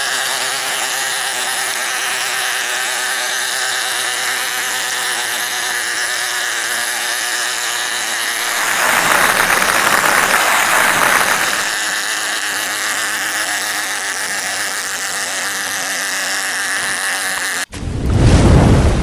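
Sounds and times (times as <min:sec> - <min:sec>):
toy mechanism whirring: 0:00.0 - 0:17.7.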